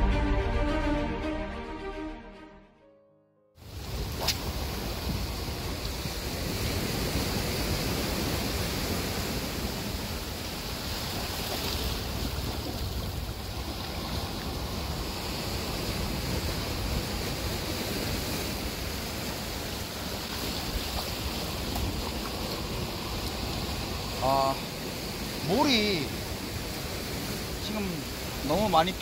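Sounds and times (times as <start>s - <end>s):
wind rumbling on microphone: 3.6s - 28.5s
surf on rocky shore: 3.6s - 29.0s.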